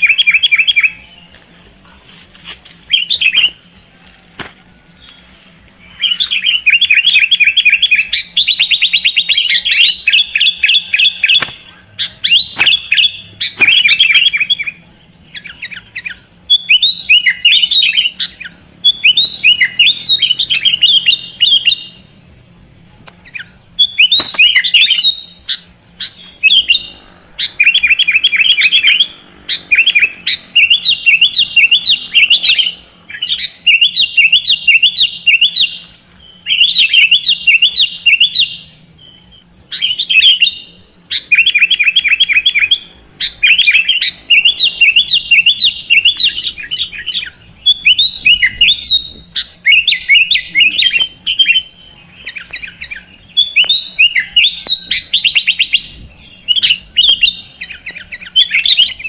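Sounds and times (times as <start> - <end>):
bulbul singing: 0.0 - 59.0.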